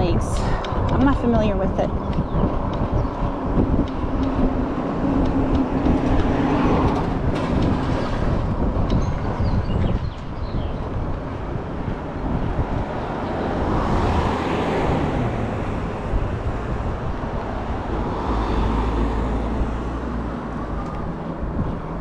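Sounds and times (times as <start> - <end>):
e-bike road noise rushing: 0.0 - 22.0.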